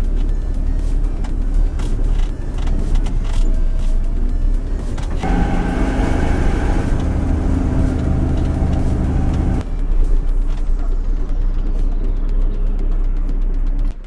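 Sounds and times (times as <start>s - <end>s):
heavy vehicle engine drone: 0.0s - 12.0s
deep rumble: 0.0s - 12.6s.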